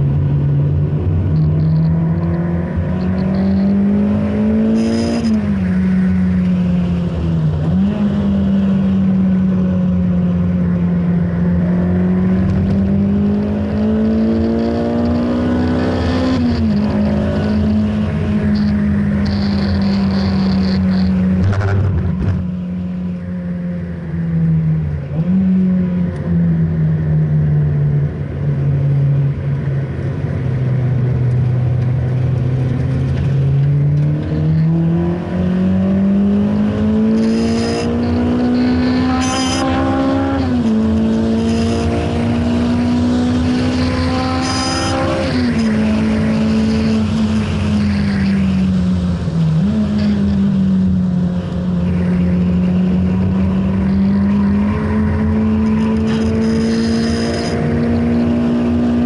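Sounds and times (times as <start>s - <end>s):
car engine accelerating hard: 0.1s - 22.9s, 27.0s - 59.0s.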